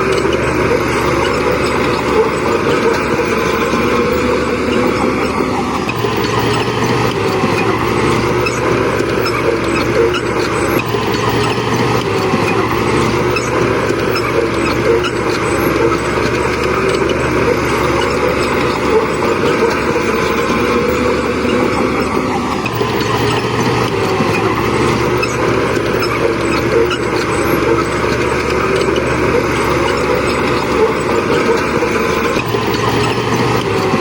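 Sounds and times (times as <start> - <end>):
diesel engines droning: 0.0 - 34.0.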